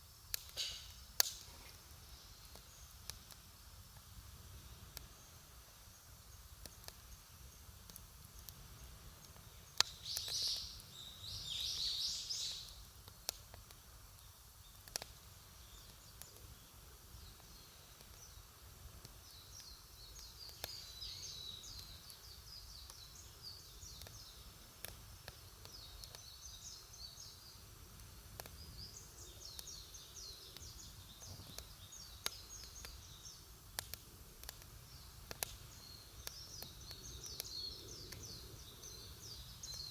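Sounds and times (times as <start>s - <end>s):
campfire crackling and popping: 0.0s - 39.9s
small birds twittering: 0.1s - 3.4s, 4.3s - 39.9s.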